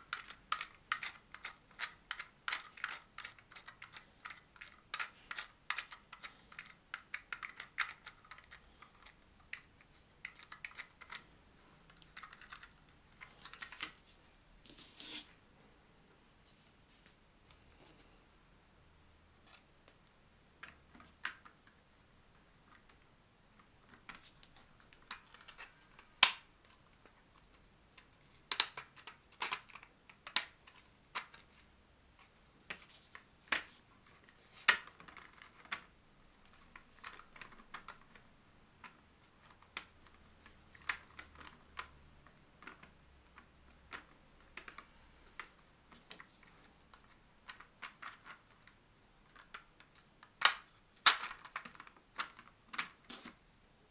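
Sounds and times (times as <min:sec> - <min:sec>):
plastic parts clicking: 0:00.0 - 0:14.0, 0:22.6 - 0:53.4.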